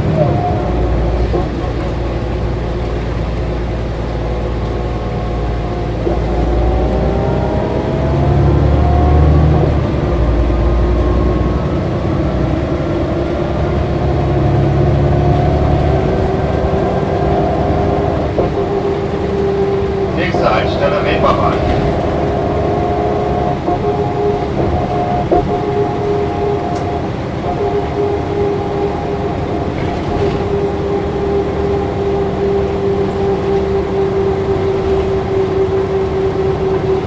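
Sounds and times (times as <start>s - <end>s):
bus engine whine: 0.0s - 37.0s.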